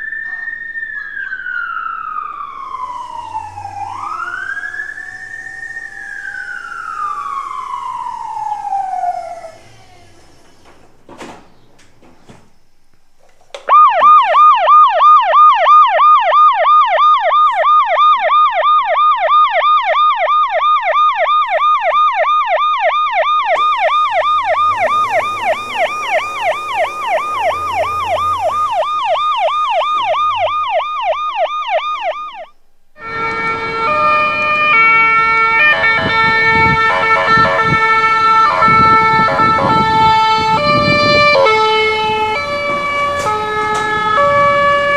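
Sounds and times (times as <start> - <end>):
toy siren yelping: 0.0 - 10.3, 13.6 - 44.9
siren stepping between tones: 0.0 - 11.3, 13.6 - 44.9.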